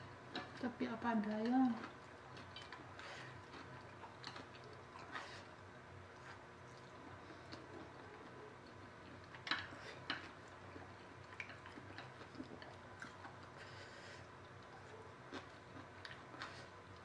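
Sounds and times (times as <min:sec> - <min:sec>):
chewing noodles: 0:01.6 - 0:17.0.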